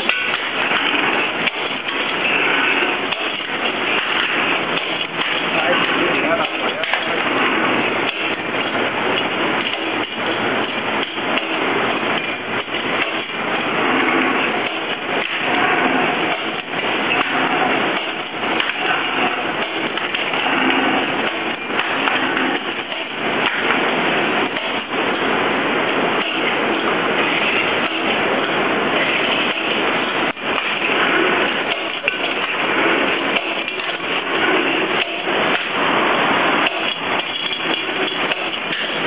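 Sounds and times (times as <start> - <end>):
machine clattering rapid knocks: 0.0 - 39.0.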